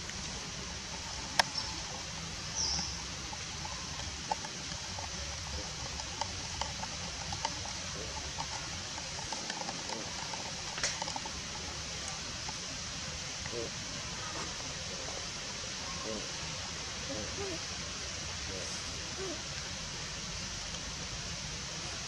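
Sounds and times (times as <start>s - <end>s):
outdoor hiss: 0.0s - 22.0s.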